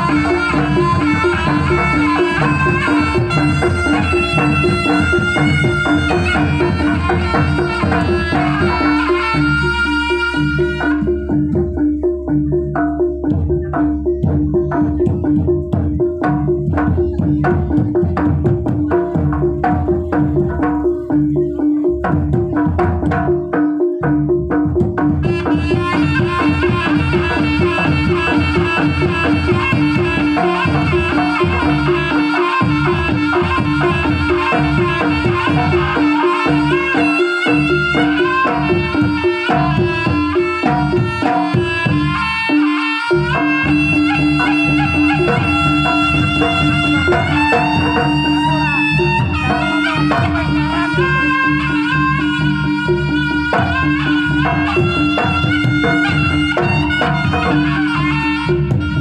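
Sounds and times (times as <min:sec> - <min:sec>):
barrel drum beat: 0:00.0 - 0:59.0
reed pipe melody: 0:00.0 - 0:59.0.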